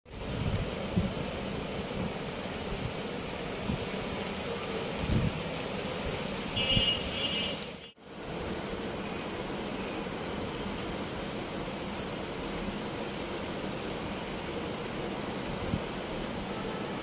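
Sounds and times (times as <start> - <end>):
rain hissing: 0.1 - 17.0.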